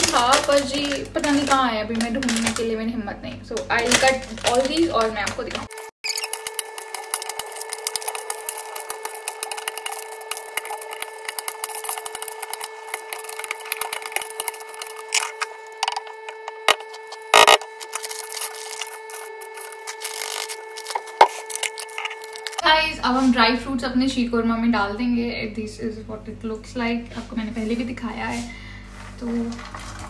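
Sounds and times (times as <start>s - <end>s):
steady hum: 0.0s - 29.6s.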